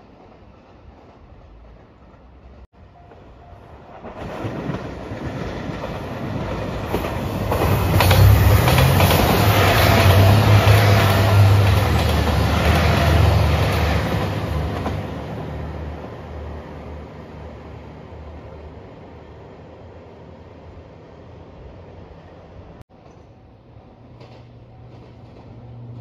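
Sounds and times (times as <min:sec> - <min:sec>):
train wheels rumbling on rails: 0:00.0 - 0:19.0, 0:21.8 - 0:26.0.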